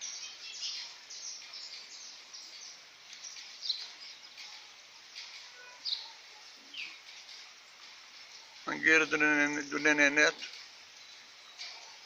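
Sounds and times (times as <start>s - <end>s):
birds chirping: 0.0s - 12.0s
steady outdoor hiss: 0.0s - 12.0s.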